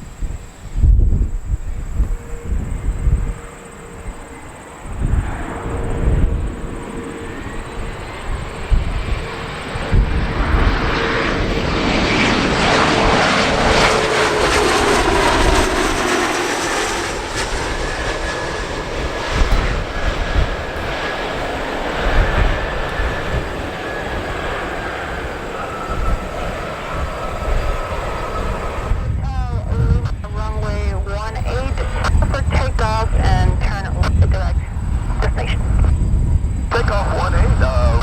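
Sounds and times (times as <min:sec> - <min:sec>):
airplane engine passing: 0:00.0 - 0:38.0
wind buffeting microphone: 0:00.0 - 0:38.0.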